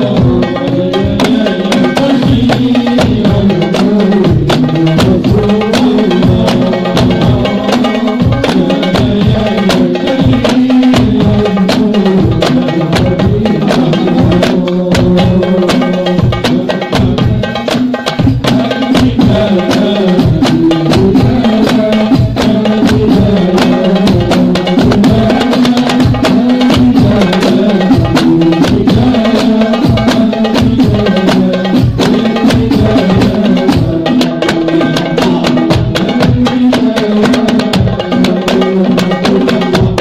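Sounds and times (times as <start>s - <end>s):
bass frame drum: 0.0s - 40.0s
hand-struck frame drums: 0.0s - 40.0s.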